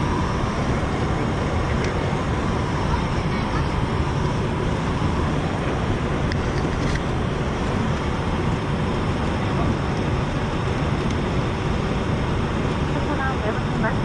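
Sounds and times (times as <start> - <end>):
airliner cabin noise: 0.0 - 14.0.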